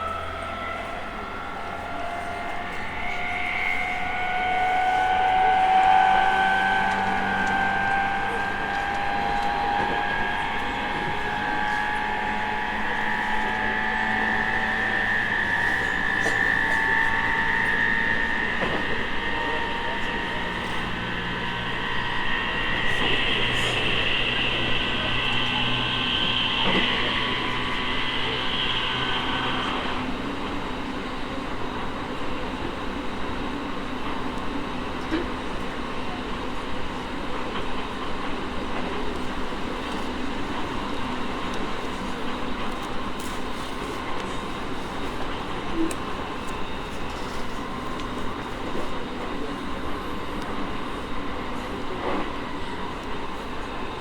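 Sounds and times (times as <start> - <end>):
low hum and rail noise: 0.0 - 54.0
train motor whine: 0.0 - 54.0.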